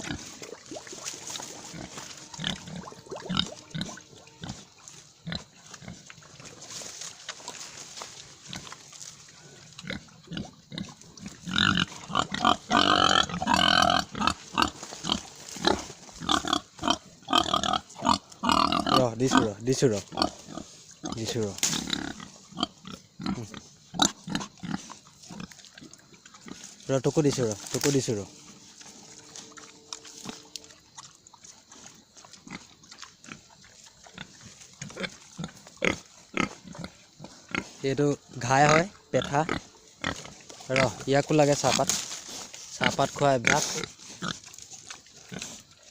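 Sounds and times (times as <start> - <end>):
pigs squealing and grunting: 0.0 - 6.8, 8.4 - 26.8, 27.4 - 45.9.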